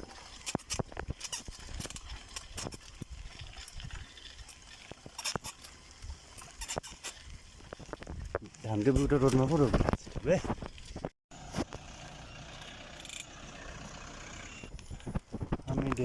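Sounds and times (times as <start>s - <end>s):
bicycle rattling on rough road: 0.0s - 16.0s.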